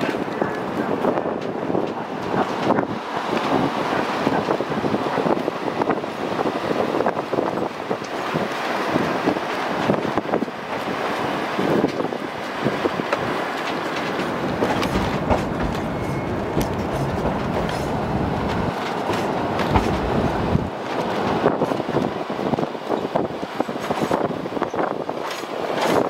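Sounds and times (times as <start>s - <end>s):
train wheels rumbling and clicking: 0.0s - 26.0s.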